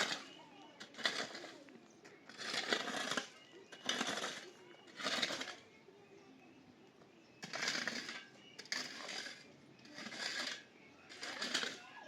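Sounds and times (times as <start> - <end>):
rhythmic rasping scrapes: 0.0 - 5.6, 7.4 - 12.0.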